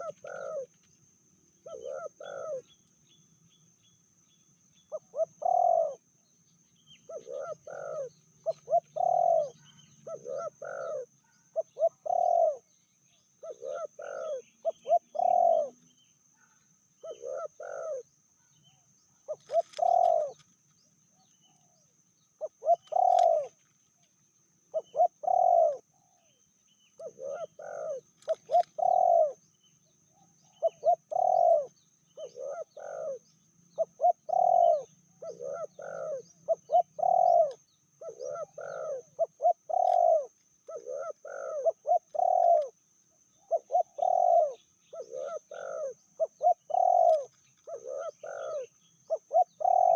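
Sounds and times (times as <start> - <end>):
doves cooing: 0.0 - 2.9, 4.8 - 6.1, 6.8 - 18.5, 19.1 - 20.5, 21.2 - 24.0, 24.6 - 49.9.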